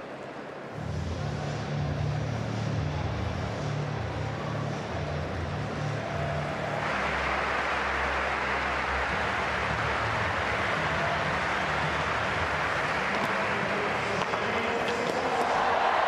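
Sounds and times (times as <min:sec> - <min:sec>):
stadium crowd murmur: 0:00.0 - 0:16.0.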